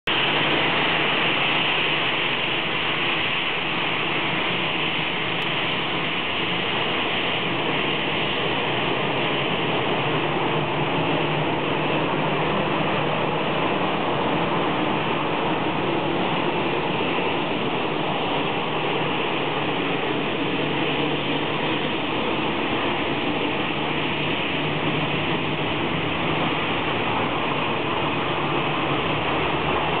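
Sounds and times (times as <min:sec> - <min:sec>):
jet engines at taxi power: 0:00.0 - 0:30.0.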